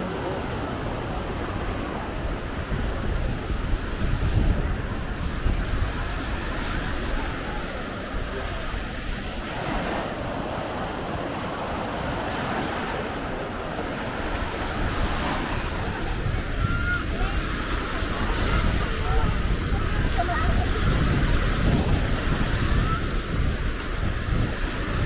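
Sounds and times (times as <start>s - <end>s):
small waves breaking on shore: 0.0s - 25.0s
wind buffeting microphone: 0.0s - 25.0s.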